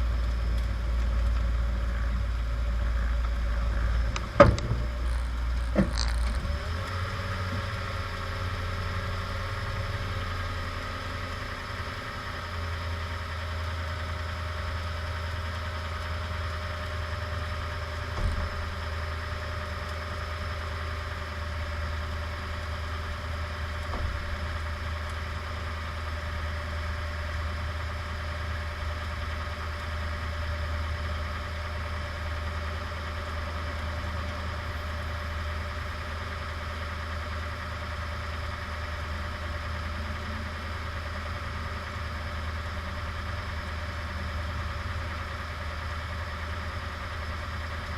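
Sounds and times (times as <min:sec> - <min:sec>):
truck engine idling: 0:00.0 - 0:47.9.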